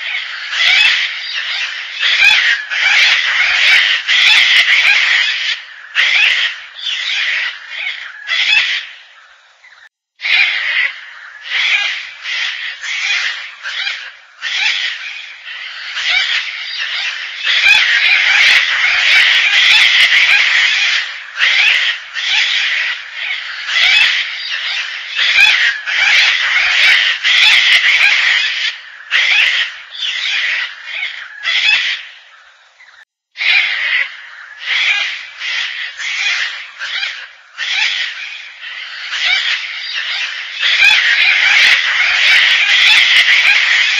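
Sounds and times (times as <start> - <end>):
cockatoo rasping calls: 0.0 - 8.9, 10.2 - 32.1, 33.4 - 43.9.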